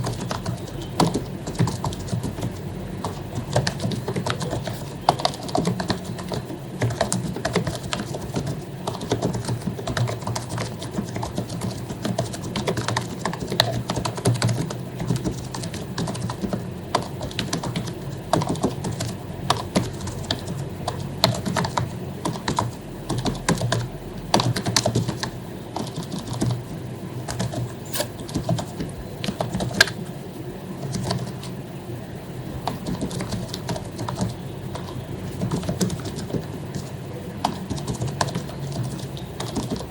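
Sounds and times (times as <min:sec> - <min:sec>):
fast keyboard typing: 0:00.0 - 0:30.1, 0:30.8 - 0:31.6, 0:32.6 - 0:39.9.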